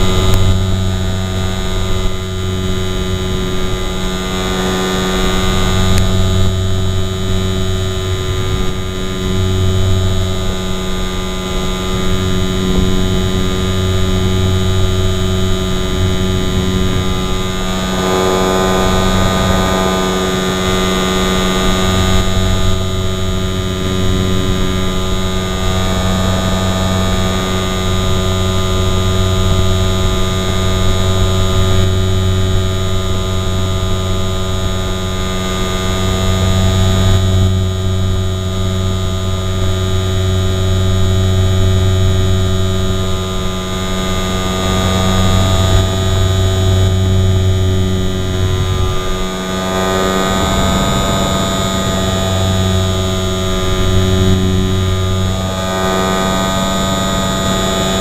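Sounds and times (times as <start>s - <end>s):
model plane motor buzzing hum: 0.0s - 58.0s.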